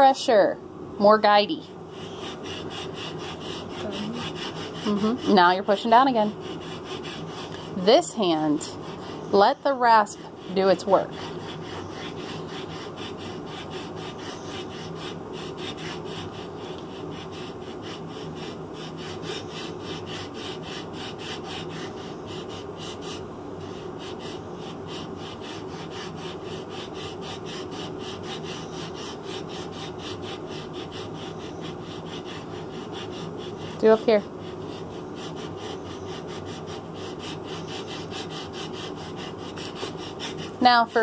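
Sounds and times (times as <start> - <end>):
hand rasp filing wood: 1.9 - 41.0.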